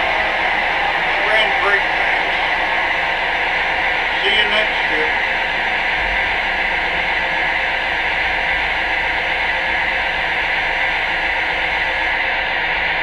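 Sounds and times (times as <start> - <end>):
model train car hum and hiss: 0.0 - 12.8.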